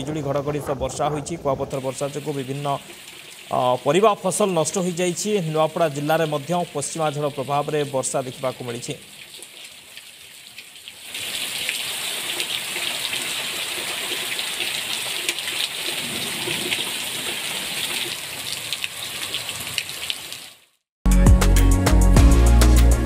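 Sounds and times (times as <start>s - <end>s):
heavy rain falling on roofs: 1.7s - 20.6s.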